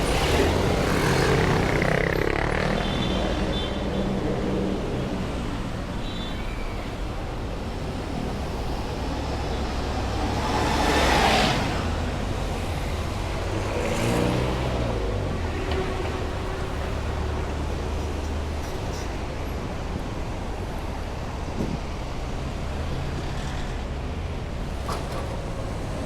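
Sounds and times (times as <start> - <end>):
heavy road traffic: 0.0 - 26.0.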